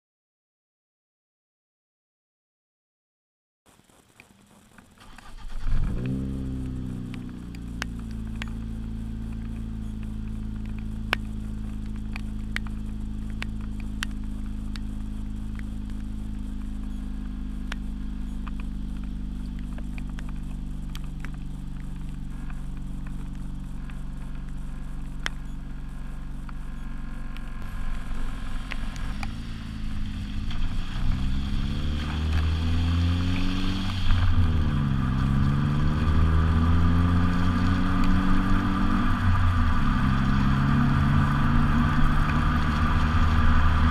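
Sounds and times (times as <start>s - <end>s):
car engine idling and revving: 3.7s - 43.9s.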